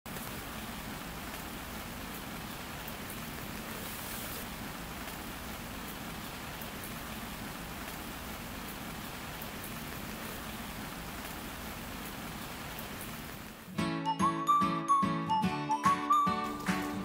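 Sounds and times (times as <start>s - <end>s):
steady rainfall hiss: 0.1s - 13.8s.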